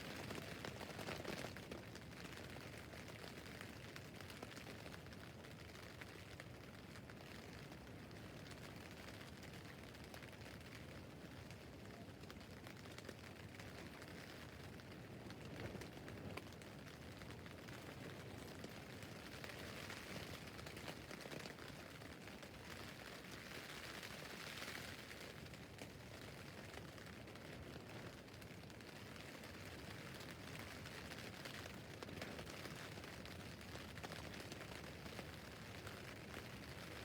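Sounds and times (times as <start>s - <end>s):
rain on tent fabric: 0.0s - 37.0s.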